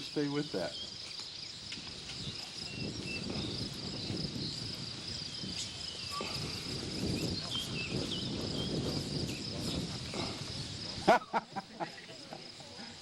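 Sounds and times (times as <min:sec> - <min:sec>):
faint chirps: 0:00.0 - 0:10.8
insects trilling: 0:00.0 - 0:13.0.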